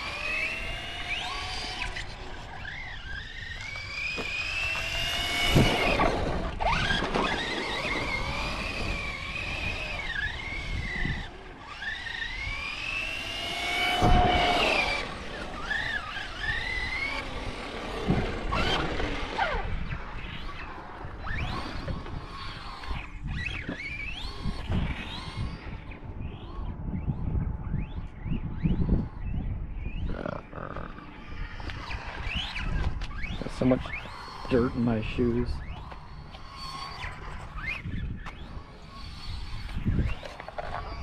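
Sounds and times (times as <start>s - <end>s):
electric motors whining: 0.0s - 41.0s.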